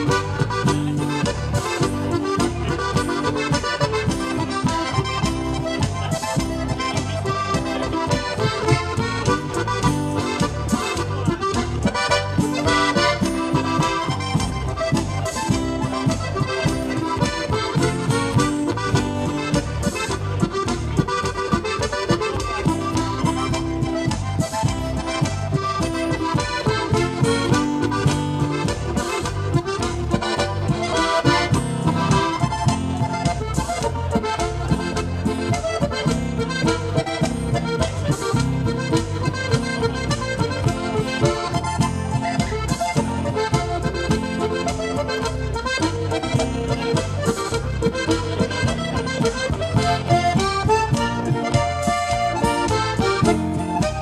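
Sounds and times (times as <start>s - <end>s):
button accordions playing: 0.0s - 54.0s
strummed acoustic guitar: 0.0s - 54.0s.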